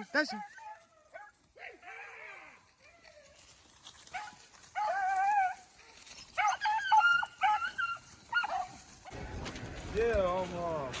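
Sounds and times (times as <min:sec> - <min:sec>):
beagles baying: 0:00.0 - 0:09.2.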